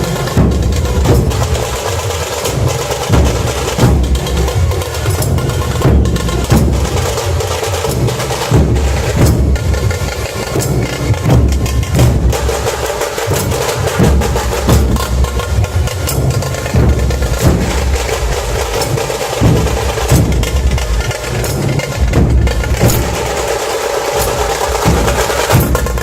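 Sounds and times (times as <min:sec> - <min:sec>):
deep barrel drum beats: 0:00.0 - 0:26.0
fast sharp drum rolls: 0:00.0 - 0:26.0.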